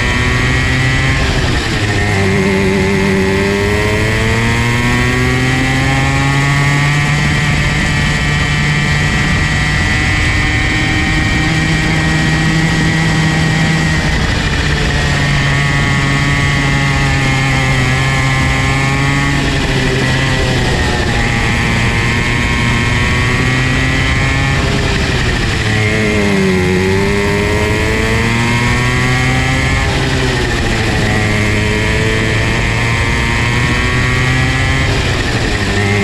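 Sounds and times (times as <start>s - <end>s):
go-kart engine revving: 0.0s - 36.0s.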